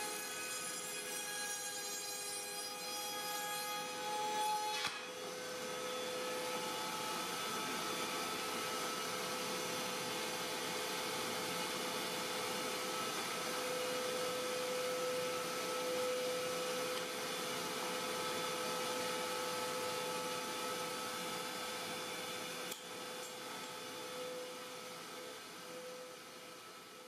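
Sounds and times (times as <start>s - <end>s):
router whining: 3.9s - 26.9s.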